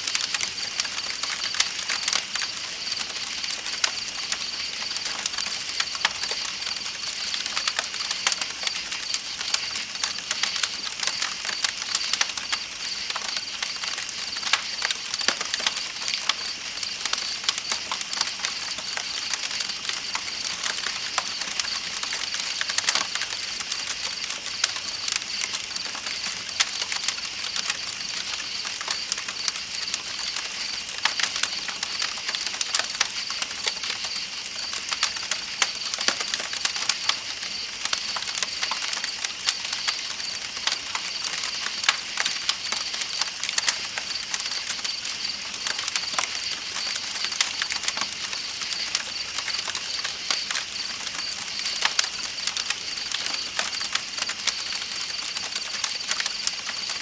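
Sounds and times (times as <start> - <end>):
campfire crackling and popping: 0.0 - 57.0
night insects chirring: 0.1 - 57.0.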